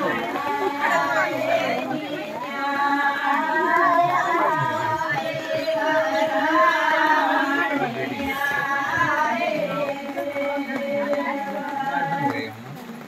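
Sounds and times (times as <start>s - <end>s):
women singing folk song: 0.0s - 12.5s.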